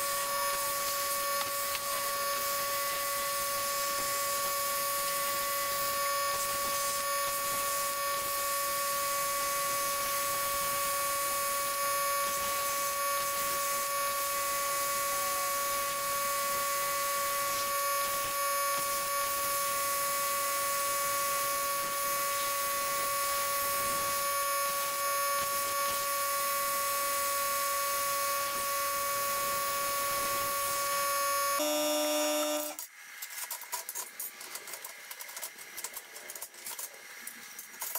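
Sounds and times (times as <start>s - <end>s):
plasma cutter arc hissing: 0.0s - 32.8s
high-pitched whine: 0.0s - 32.9s.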